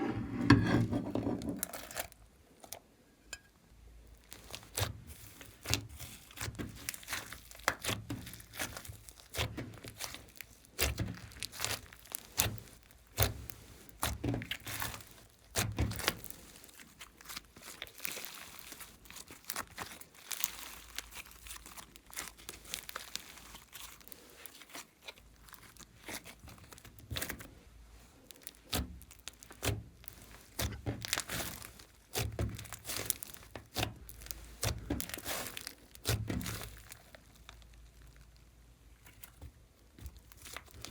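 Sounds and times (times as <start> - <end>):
slime squishing and crackling: 4.0 - 40.9.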